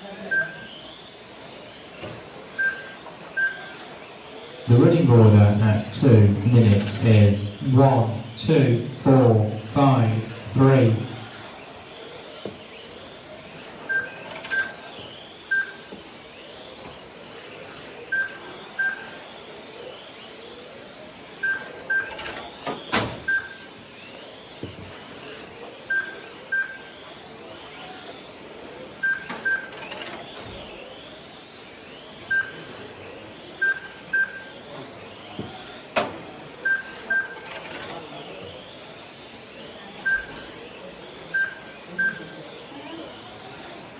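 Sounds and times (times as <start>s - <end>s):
electric rc cars whining past: 0.0s - 8.2s, 9.0s - 43.9s.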